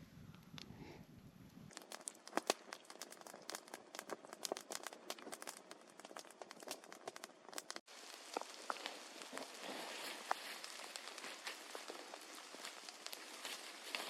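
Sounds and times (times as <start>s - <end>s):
light rain pattering: 1.7s - 14.0s
sharp raindrop ticks: 1.7s - 14.0s.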